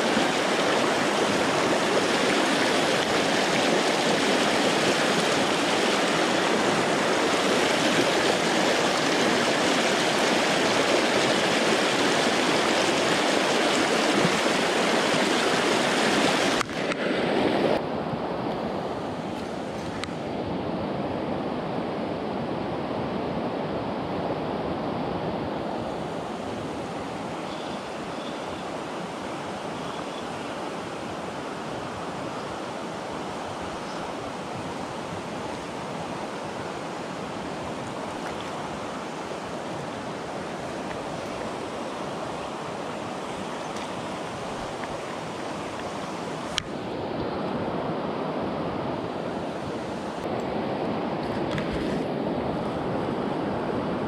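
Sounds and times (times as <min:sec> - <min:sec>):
river water rushing: 0:00.0 - 0:21.8, 0:24.4 - 0:54.0.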